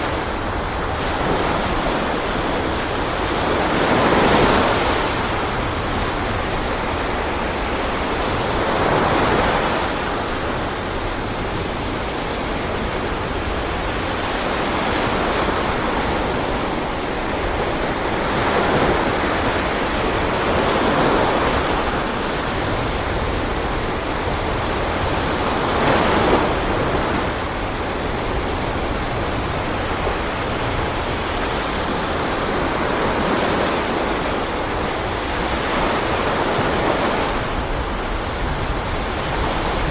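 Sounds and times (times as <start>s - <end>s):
sea waves rushing: 0.0s - 39.9s
wind at sea: 0.0s - 39.9s.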